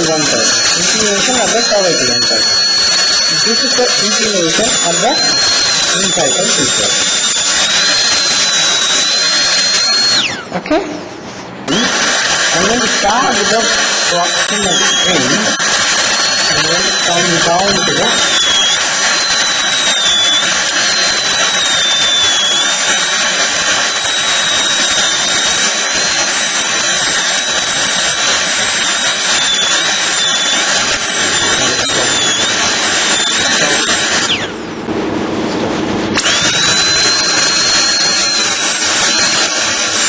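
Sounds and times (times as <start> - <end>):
dental drill whine: 0.0 - 10.7, 11.6 - 34.9, 36.0 - 40.0.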